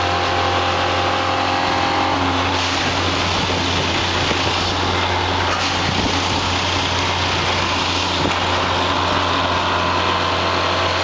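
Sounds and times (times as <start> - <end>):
dense mechanical noise: 0.0 - 11.0
engine drone: 0.0 - 11.0.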